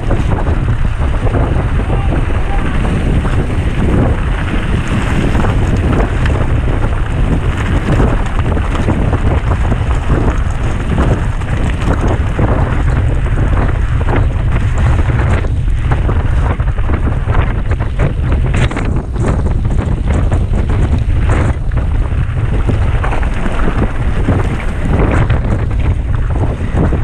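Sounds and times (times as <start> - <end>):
bike rattling over rough ground: 0.0 - 27.0
wind buffeting microphone: 0.0 - 27.0.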